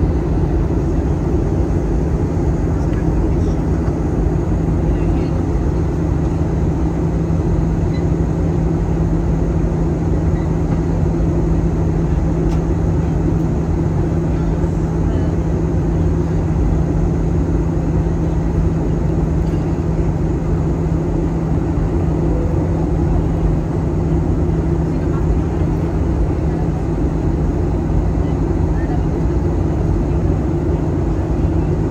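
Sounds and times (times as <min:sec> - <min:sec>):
low hum: 0:00.0 - 0:29.0
airliner cabin engine drone: 0:00.0 - 0:31.9.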